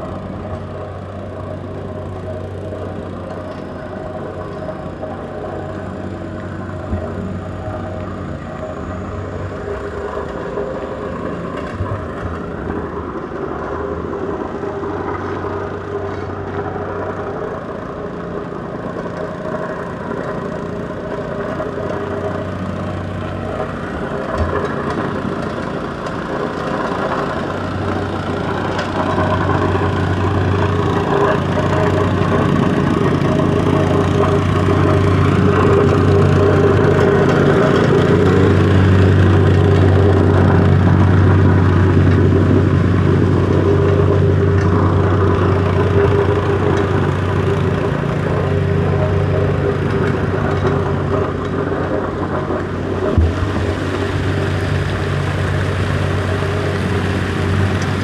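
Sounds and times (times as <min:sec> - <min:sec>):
city street traffic: 0:00.0 - 0:58.0
vehicle engine humming nearby: 0:00.0 - 0:58.0.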